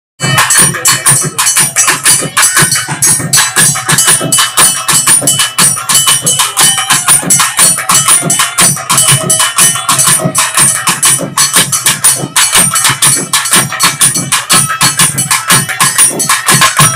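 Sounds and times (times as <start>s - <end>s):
rapid drum strokes: 0.2s - 16.9s.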